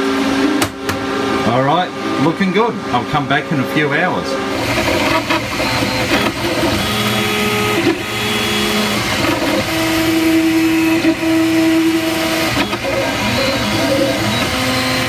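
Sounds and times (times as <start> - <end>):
machine whir: 0.0 - 15.0
stepper motors whining: 1.3 - 15.0.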